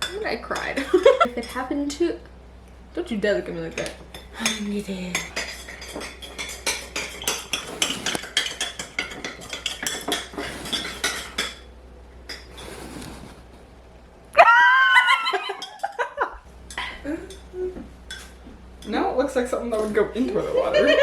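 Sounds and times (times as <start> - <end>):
utensils clinking against dishes: 0.0 - 2.2, 3.4 - 12.7, 15.3 - 21.0.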